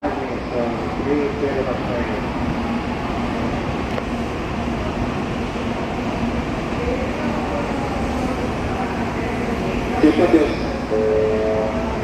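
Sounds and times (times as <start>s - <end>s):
high-speed train noise: 0.0s - 12.0s.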